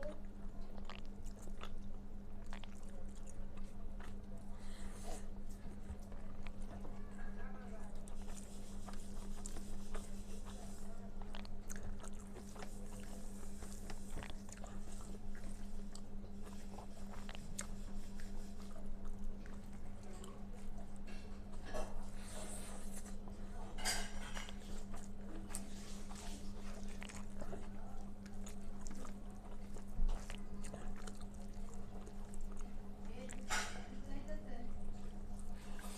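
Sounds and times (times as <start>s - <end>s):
steady low hum: 0.0s - 35.9s
wet chewing mouth sounds: 0.0s - 35.9s.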